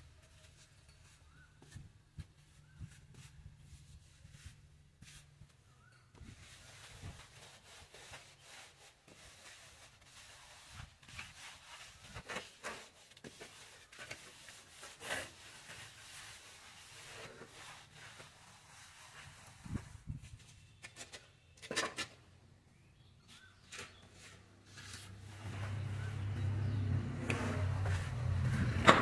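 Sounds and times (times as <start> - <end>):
float scraping cement plaster: 2.5 - 22.2, 23.5 - 29.0.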